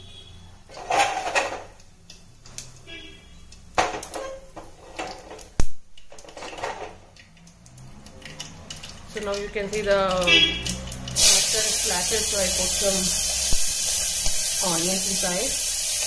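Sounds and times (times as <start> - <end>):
seeds crackling in hot oil: 0.2 - 16.0.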